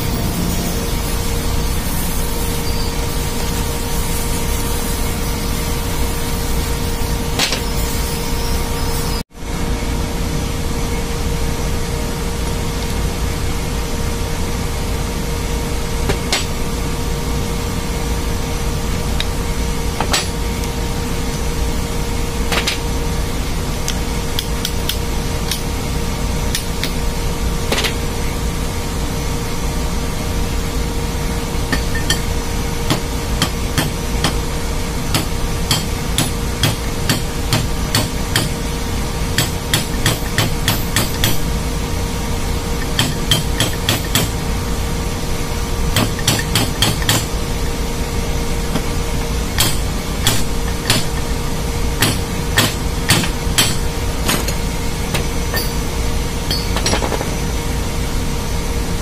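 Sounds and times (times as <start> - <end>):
engine-room machinery drone: 0.0 - 59.0.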